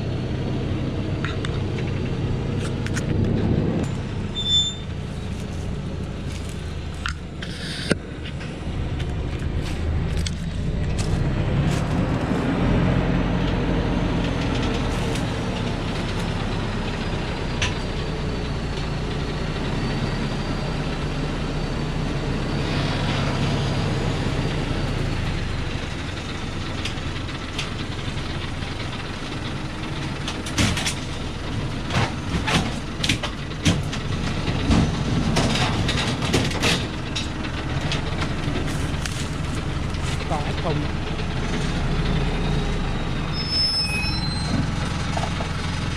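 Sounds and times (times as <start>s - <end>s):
truck knocking and rattling: 0.0s - 21.8s, 22.4s - 45.9s
truck diesel engine labouring: 0.0s - 45.9s.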